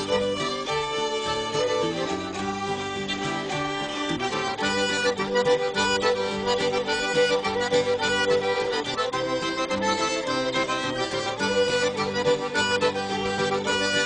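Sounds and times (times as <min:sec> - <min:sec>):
accordion playing tune: 0:00.0 - 0:14.0
cajun band music: 0:00.0 - 0:14.0.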